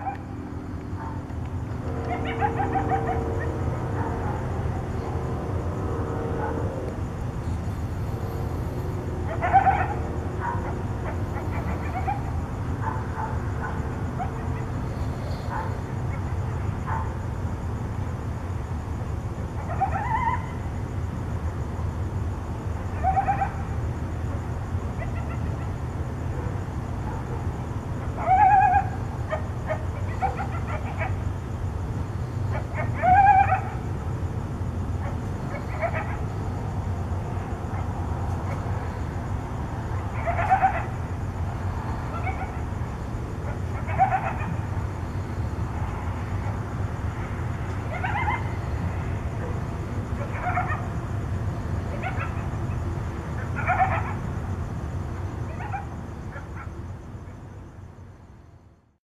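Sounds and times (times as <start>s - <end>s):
coyotes yipping and howling: 0.0s - 21.3s, 22.5s - 58.1s
steady low hum: 0.0s - 58.9s.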